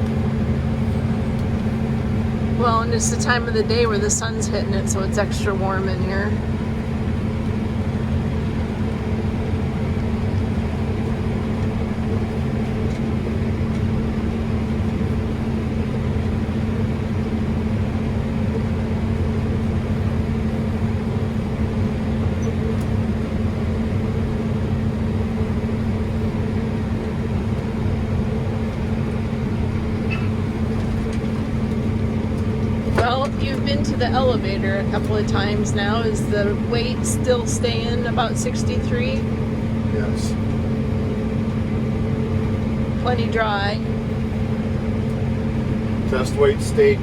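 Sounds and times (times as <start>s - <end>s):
harvester machinery drone: 0.0s - 47.0s.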